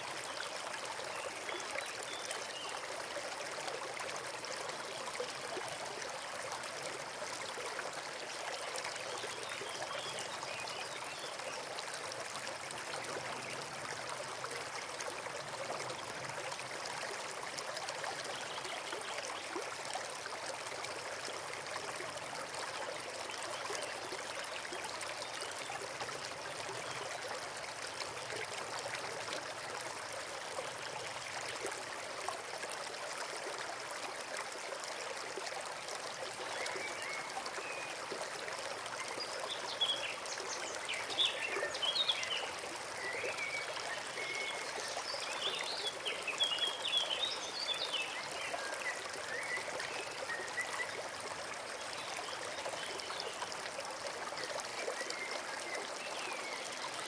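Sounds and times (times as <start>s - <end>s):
brook running over stones: 0.0s - 57.0s.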